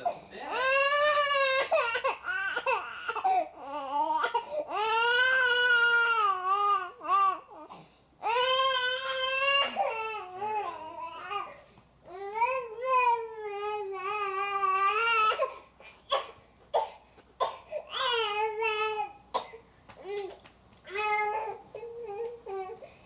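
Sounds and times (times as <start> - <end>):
baby crying: 0.0 - 19.2.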